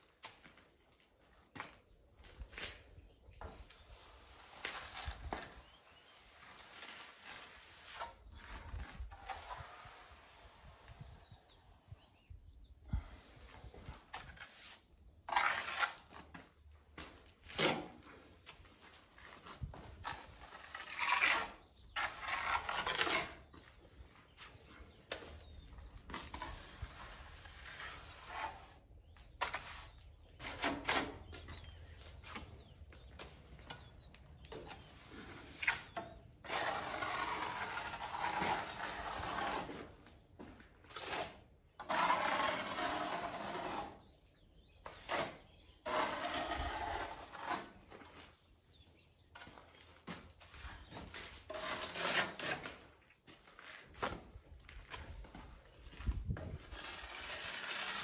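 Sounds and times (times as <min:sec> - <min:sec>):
trowel scraping mortar: 0:03.4 - 0:12.0, 0:13.0 - 0:16.6, 0:17.5 - 0:53.2, 0:56.1 - 0:58.0.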